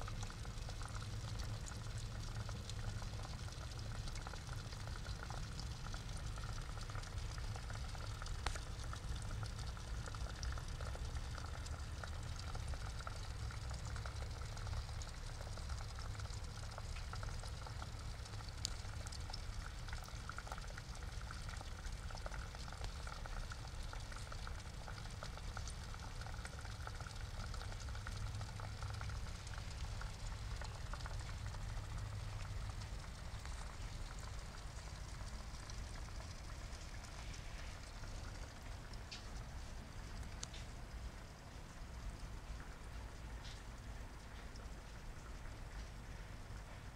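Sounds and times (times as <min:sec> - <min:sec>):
water bubbling into pond: 0:00.0 - 0:46.9.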